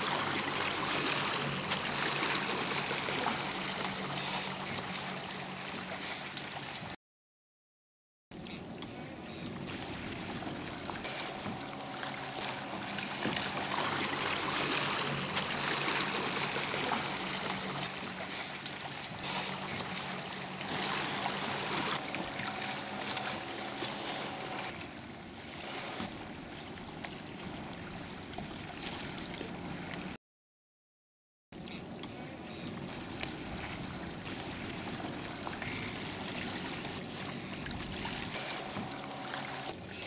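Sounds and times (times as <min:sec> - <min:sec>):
water rushing along kayak hull: 0:00.0 - 0:07.0, 0:08.4 - 0:30.2, 0:31.6 - 0:40.0.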